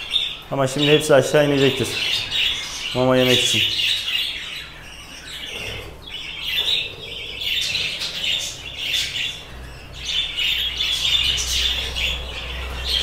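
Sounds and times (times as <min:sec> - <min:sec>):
budgerigars chattering and chirping: 0:00.0 - 0:13.0.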